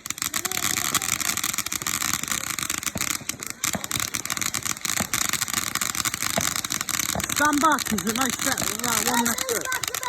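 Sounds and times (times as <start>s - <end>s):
firework crackling pops: 0.0s - 10.0s
firework hiss: 0.0s - 10.0s.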